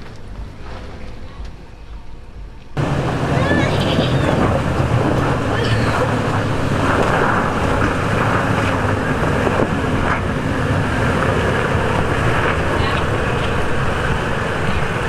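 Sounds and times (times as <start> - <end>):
car engine running: 0.0 - 15.0
wind buffeting microphone: 0.0 - 15.0.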